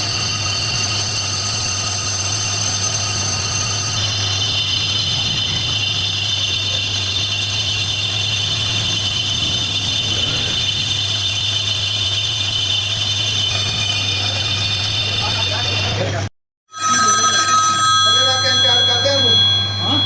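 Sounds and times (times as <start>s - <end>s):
lathe humming with high tones: 0.0s - 20.0s.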